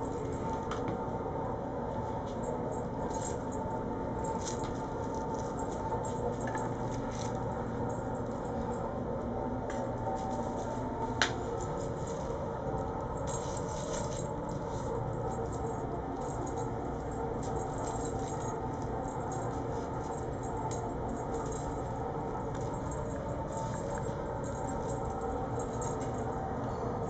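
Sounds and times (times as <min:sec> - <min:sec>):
steady background hum: 0:00.0 - 0:27.0
kittens scampering and playing: 0:02.0 - 0:09.2, 0:09.8 - 0:27.0.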